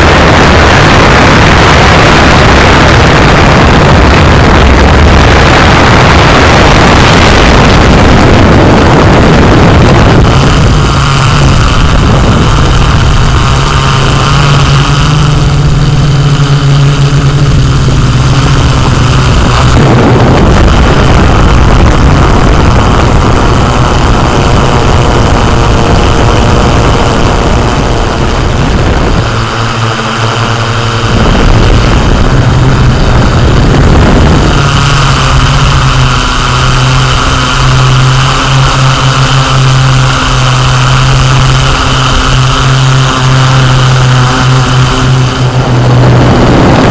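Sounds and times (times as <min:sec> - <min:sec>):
drone propellers whirring: 0:00.0 - 0:46.9.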